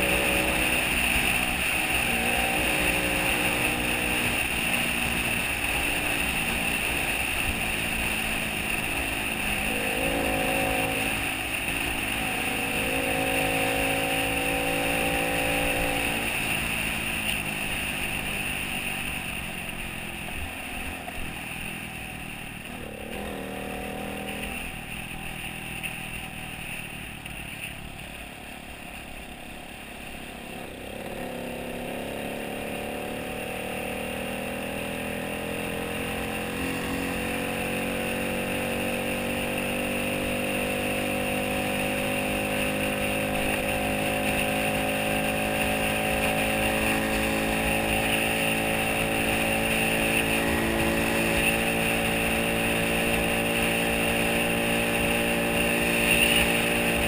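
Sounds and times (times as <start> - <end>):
vehicle engine running: 0.0 - 57.0
wind and road noise: 0.0 - 57.0.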